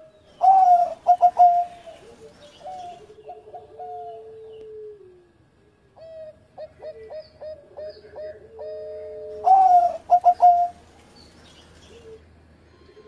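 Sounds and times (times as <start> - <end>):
dove cooing: 0.0 - 5.4, 6.0 - 10.8, 11.8 - 12.2.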